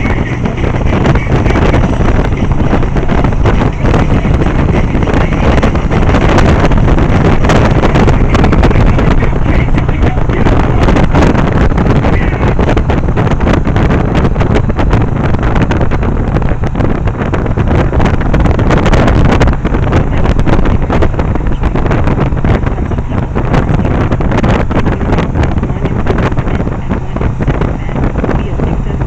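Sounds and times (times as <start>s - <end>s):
motorcycle engine running: 0.0s - 29.0s
wind buffeting on microphone: 0.0s - 29.0s.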